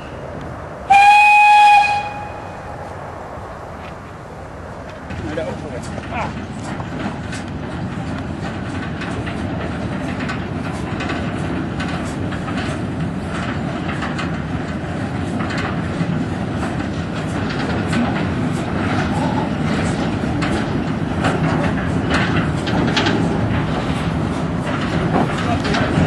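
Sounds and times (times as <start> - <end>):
wagons clattering over rails: 4.8 - 26.0.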